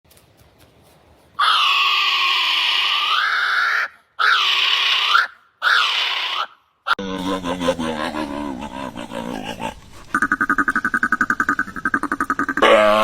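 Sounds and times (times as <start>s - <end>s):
animal calling loudly: 1.4s - 13.0s.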